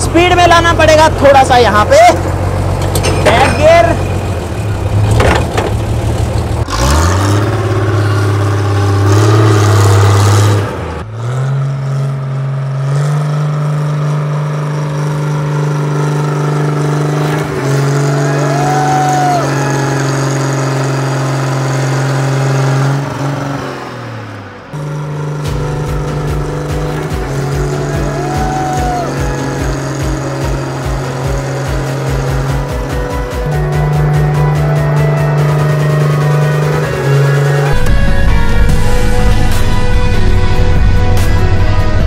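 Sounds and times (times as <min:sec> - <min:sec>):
road roller diesel engine: 0:00.0 - 0:42.0.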